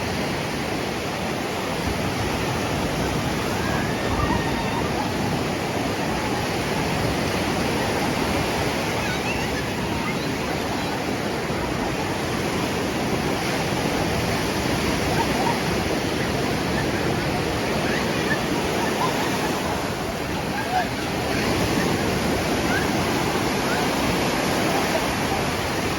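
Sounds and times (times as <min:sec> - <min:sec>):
waves breaking on sand beach: 0:00.0 - 0:25.9.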